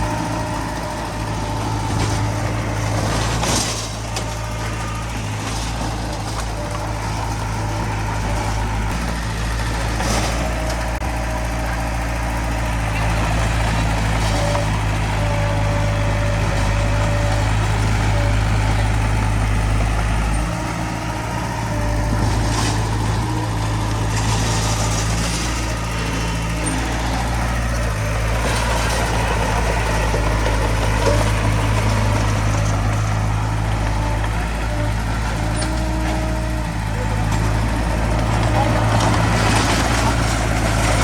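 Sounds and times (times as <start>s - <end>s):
diesel engine of heavy machinery: 0.0s - 41.0s.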